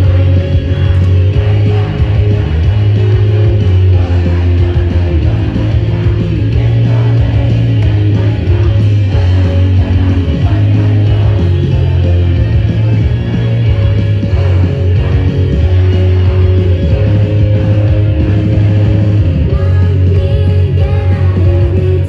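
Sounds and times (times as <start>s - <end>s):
pop song over loudspeakers: 0.0s - 22.0s.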